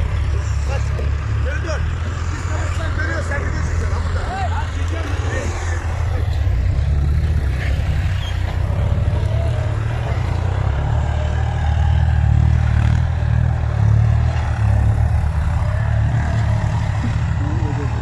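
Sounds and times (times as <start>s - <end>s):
tractor diesel engine rumbling: 0.0s - 18.0s.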